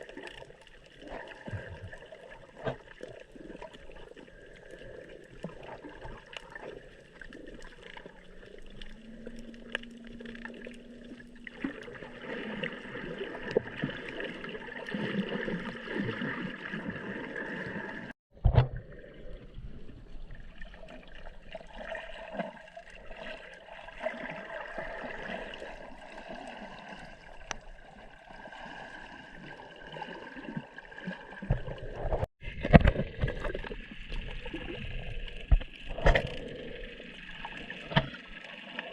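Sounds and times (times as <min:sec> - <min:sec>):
water gurgling and sloshing: 0:00.0 - 0:38.9.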